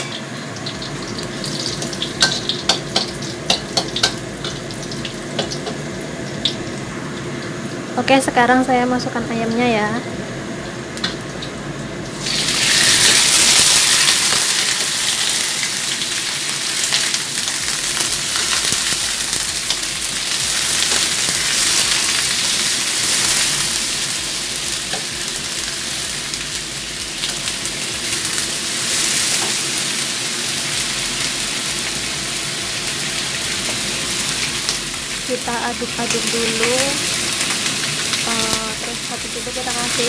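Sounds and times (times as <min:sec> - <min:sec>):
chicken sizzling in oil: 0:00.0 - 0:08.0, 0:09.4 - 0:40.0.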